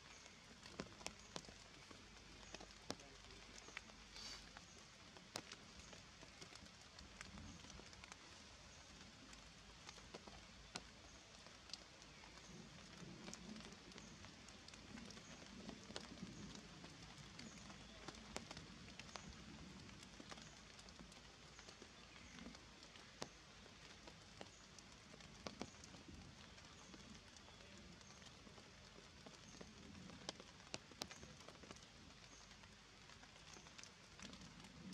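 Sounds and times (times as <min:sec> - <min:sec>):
steady low hiss: 0:00.0 - 0:34.9
water drips ticking: 0:00.0 - 0:34.9.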